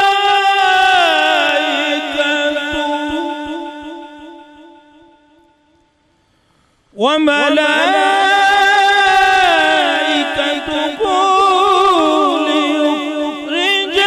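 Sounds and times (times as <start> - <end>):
man chanting through a microphone: 0.0 - 5.2, 6.9 - 14.0.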